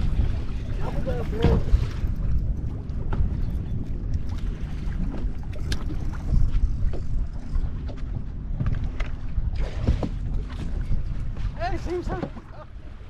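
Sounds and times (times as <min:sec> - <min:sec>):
water slapping boat hull: 0:00.0 - 0:13.0
wind buffeting microphone: 0:00.0 - 0:13.0.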